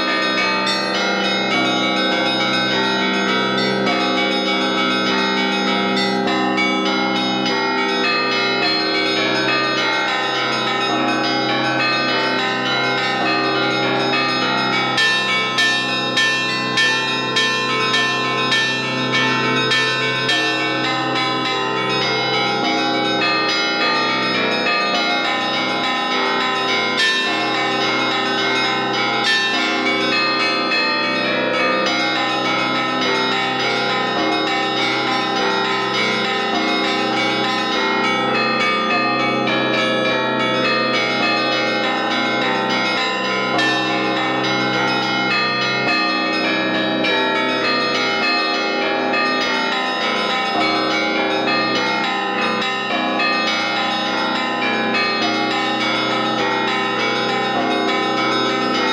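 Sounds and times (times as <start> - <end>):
church bells ringing a peal: 0.0 - 58.9
deep hum of a large bell: 0.0 - 58.9.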